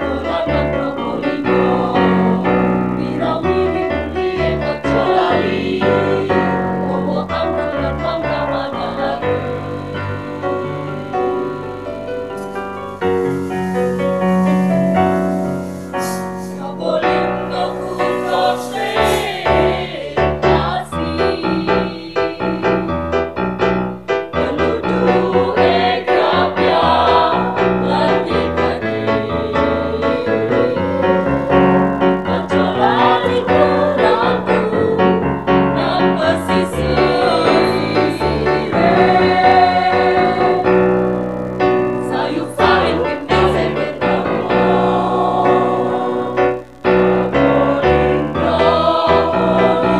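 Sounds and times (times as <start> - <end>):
children's choir singing: 0.0 - 23.0, 24.2 - 41.0, 42.0 - 49.9
piano accompaniment: 0.0 - 49.9.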